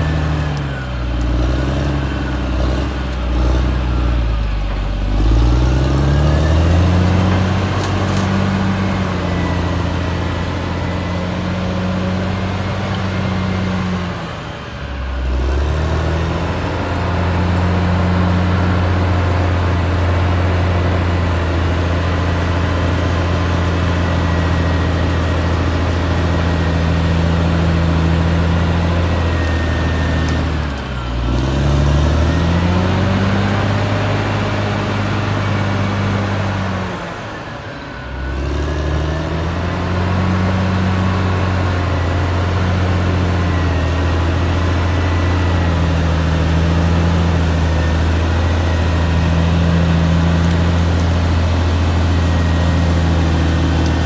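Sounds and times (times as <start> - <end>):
bulldozer diesel engine running: 0.0 - 54.0
high whine: 0.0 - 54.0.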